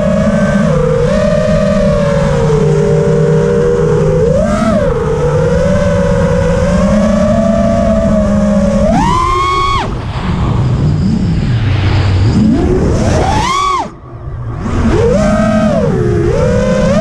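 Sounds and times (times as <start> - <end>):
quadcopter motors whining: 0.0 - 10.1, 12.2 - 14.0, 14.6 - 17.0.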